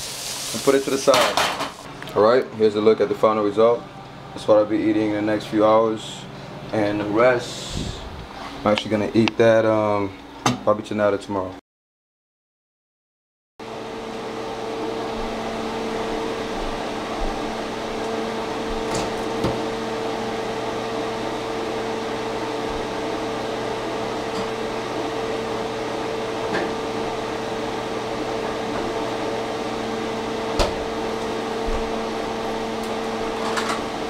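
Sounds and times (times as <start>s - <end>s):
appliance electrical hum and fan: 0.0s - 11.6s, 13.6s - 34.0s.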